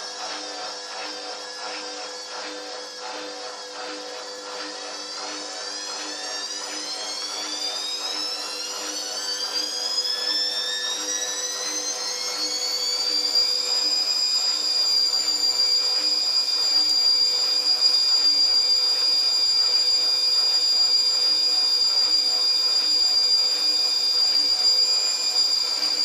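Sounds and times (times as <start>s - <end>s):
washing machine motor whining: 0.0s - 26.0s.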